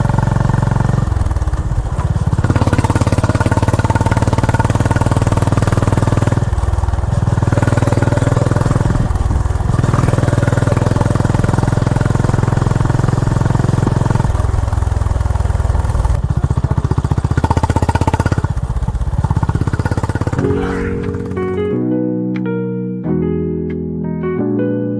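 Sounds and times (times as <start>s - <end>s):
motorcycle engine thumping: 0.0s - 21.7s.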